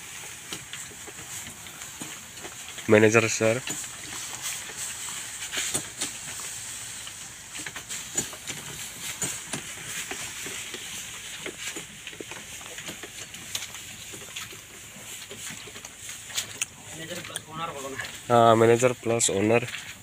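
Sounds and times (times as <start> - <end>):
sprayer hissing: 0.0 - 20.0.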